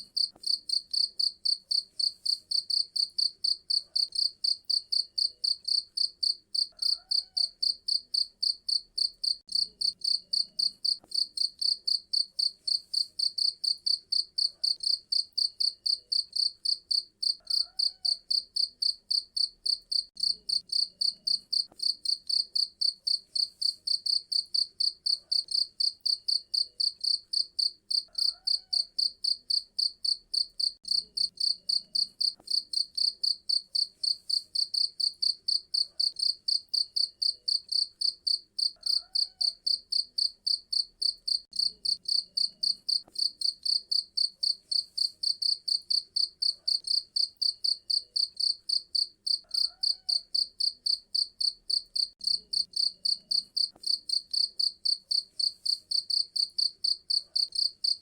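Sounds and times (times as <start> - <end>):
cricket chirping: 0.2 - 58.0.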